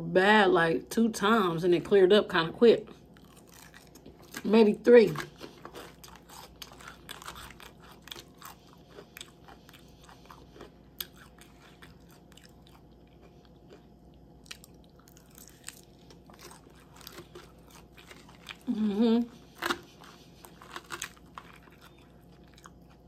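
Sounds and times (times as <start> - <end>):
person chewing crunchy salad: 2.9 - 23.0.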